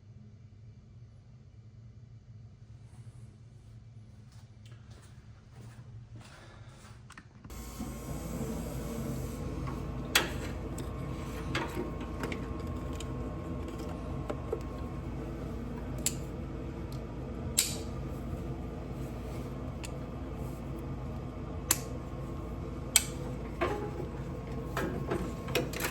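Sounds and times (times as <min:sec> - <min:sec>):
steady mechanical hum: 0:00.0 - 0:25.9.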